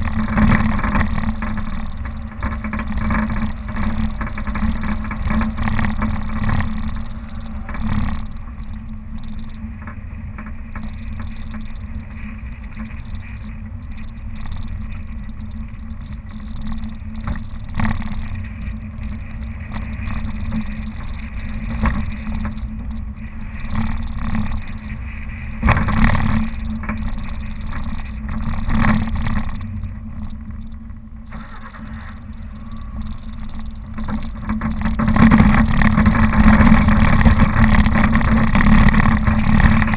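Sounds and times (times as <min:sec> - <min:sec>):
car engine low drone: 0:00.0 - 0:39.9.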